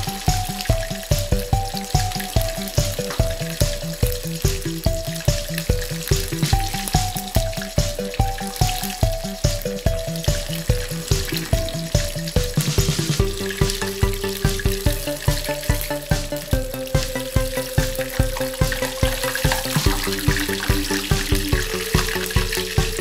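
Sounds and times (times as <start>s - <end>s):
background music with beat: 0.0s - 23.0s
chicken deep-frying in oil: 0.0s - 23.0s.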